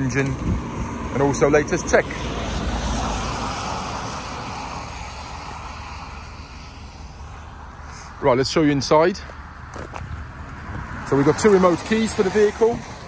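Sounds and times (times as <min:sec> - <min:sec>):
passing vehicle rushing: 0:00.0 - 0:13.0.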